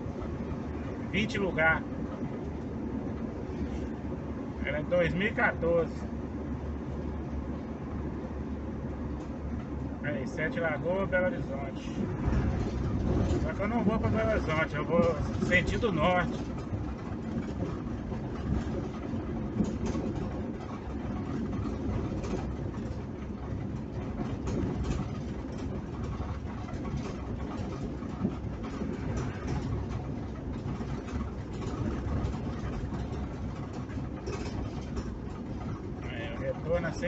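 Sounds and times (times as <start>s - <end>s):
van engine and road noise: 0.0s - 37.0s.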